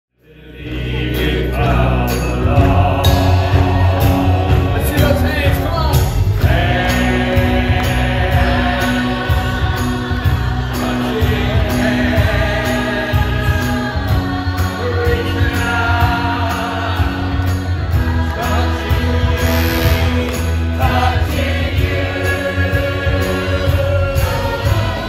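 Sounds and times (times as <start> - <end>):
cast singing with band: 0.2 - 25.0.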